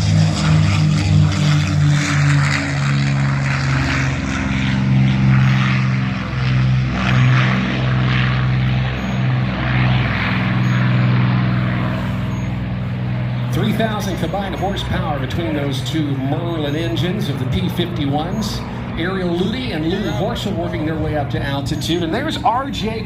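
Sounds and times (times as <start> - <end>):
propeller airplane engine drone: 0.0 - 23.0.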